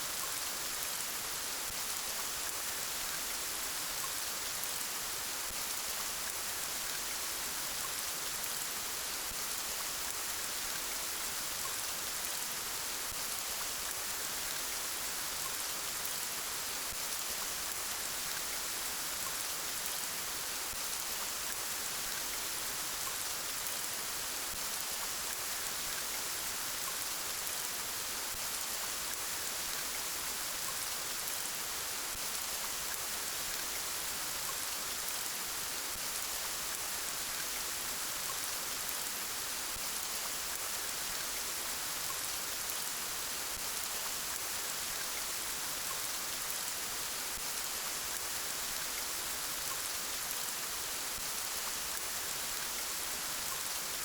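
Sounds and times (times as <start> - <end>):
gentle rain pattering: 0.0 - 54.0.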